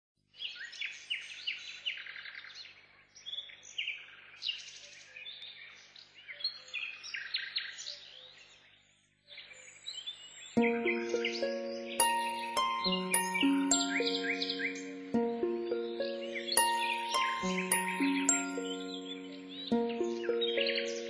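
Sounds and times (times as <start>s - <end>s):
songbirds chirping and trilling: 0.4s - 21.0s.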